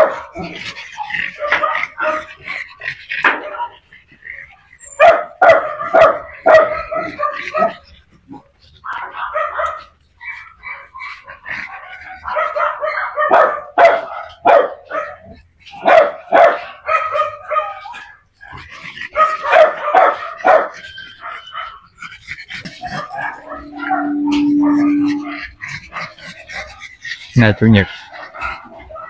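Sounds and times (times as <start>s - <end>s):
small dogs barking and yipping: 0.0s - 29.0s.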